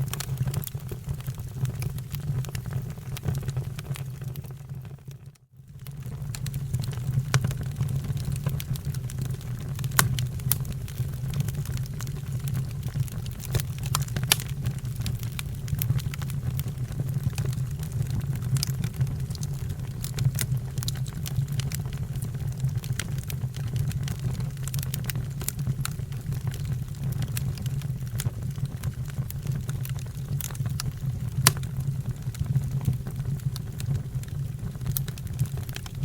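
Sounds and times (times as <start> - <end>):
fire crackling and popping: 0.0 - 5.1, 5.8 - 36.0.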